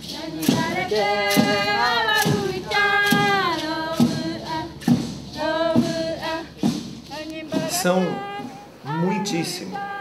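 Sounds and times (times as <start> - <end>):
regular sharp strikes: 0.0 - 8.1
women and children singing chant: 0.0 - 10.0.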